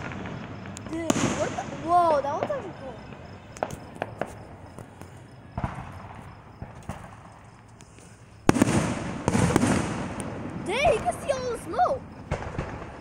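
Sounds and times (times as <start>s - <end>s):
distant fireworks popping: 0.0s - 13.0s
fireworks bangs: 0.0s - 13.0s.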